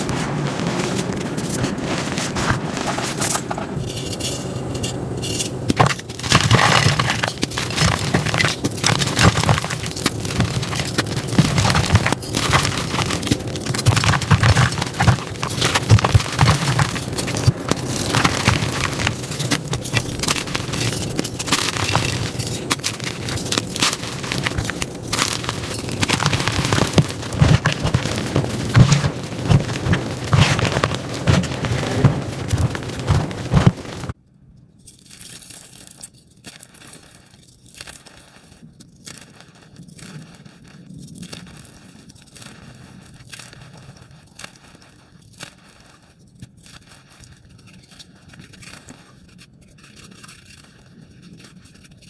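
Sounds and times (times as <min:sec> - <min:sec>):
chalk crunching and crackling: 0:00.0 - 0:34.2, 0:35.0 - 0:52.0.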